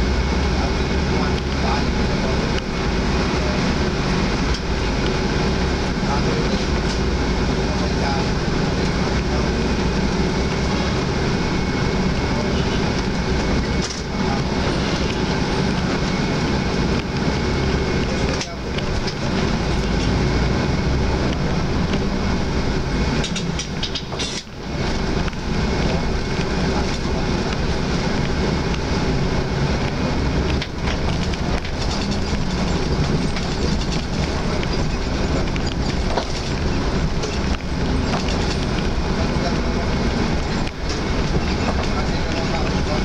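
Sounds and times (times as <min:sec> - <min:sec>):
bus engine hum: 0:00.0 - 0:43.0
road rumble: 0:00.0 - 0:43.0.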